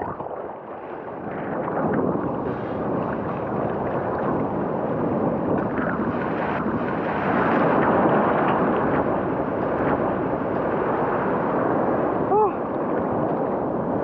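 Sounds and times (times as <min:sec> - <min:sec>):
ocean surf rushing: 0:00.0 - 0:14.0.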